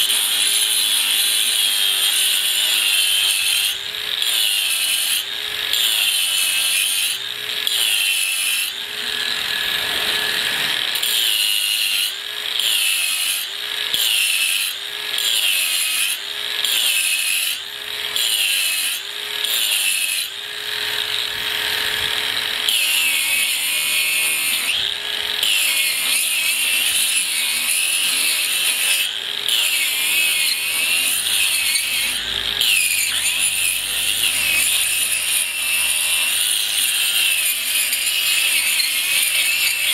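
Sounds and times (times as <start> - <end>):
angle grinder grinding concrete: 0.0 - 39.9.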